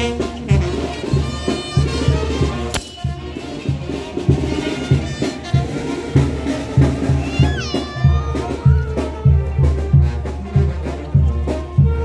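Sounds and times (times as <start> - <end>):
brass band music: 0.0 - 12.0.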